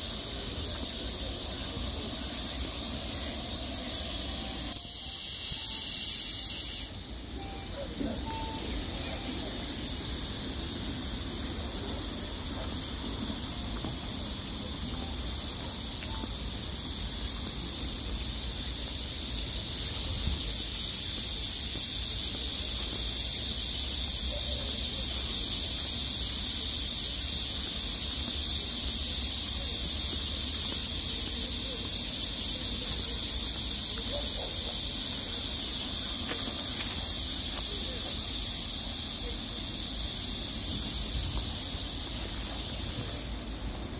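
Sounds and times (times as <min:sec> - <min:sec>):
insect chorus hissing: 0:00.0 - 0:43.9.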